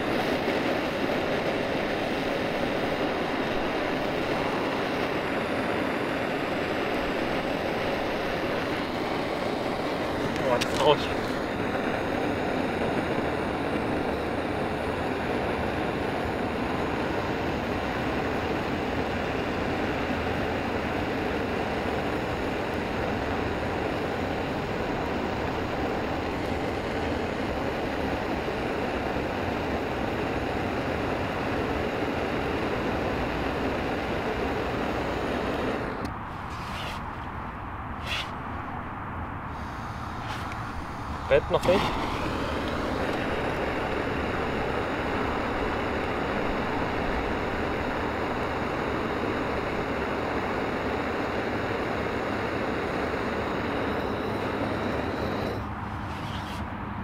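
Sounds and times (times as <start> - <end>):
gas burner flame hissing: 0.0 - 38.8, 39.4 - 56.7.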